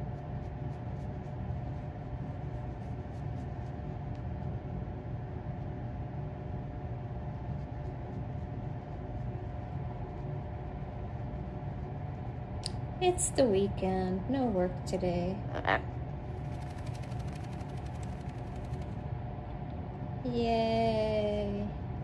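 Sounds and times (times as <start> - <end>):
faint constant tone: 0.0 - 22.0
low mechanical hum: 0.0 - 22.0.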